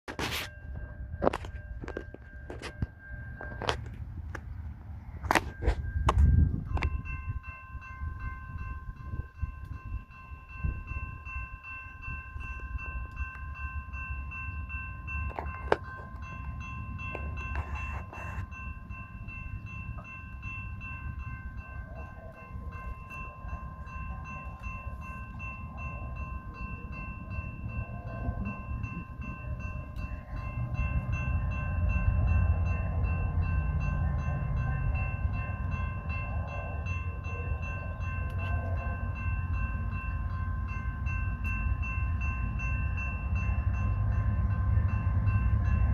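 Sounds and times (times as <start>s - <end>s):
crossing warning bell ringing: 0.1s - 45.9s
low train rumble: 0.1s - 45.9s.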